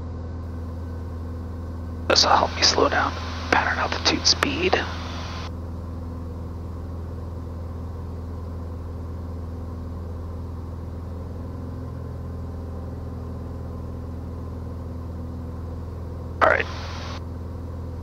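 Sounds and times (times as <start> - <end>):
aircraft engine and propeller droning: 0.0 - 18.0.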